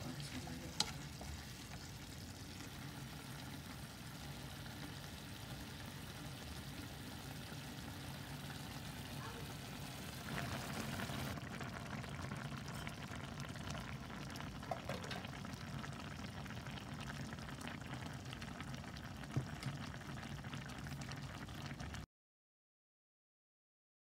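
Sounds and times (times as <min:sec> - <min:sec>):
sauce bubbling and popping in a pan: 0:00.0 - 0:22.1.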